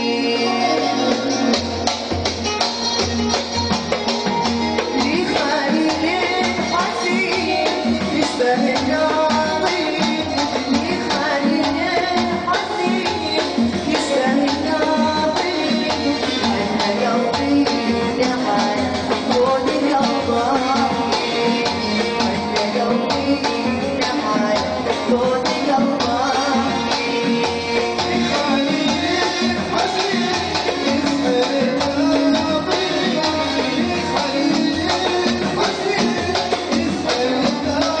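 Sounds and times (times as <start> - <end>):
hand percussion: 0.0 - 38.0
person singing: 0.0 - 38.0.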